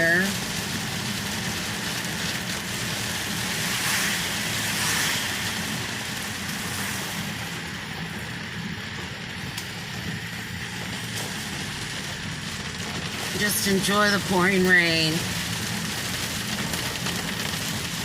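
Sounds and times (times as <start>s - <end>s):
car engine humming: 0.0s - 18.0s
rain hissing: 0.0s - 18.0s
tyres on wet road: 0.0s - 18.0s.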